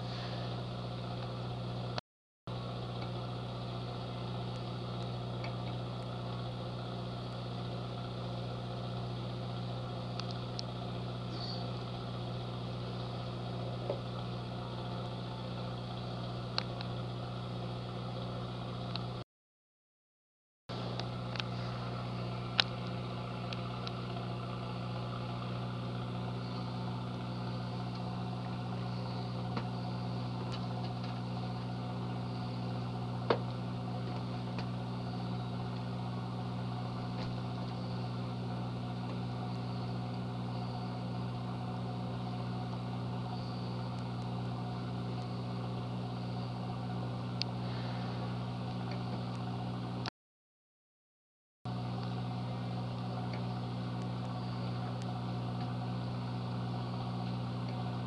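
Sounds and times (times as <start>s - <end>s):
onboard machinery hum: 0.0s - 19.2s, 20.7s - 50.1s, 51.7s - 58.0s.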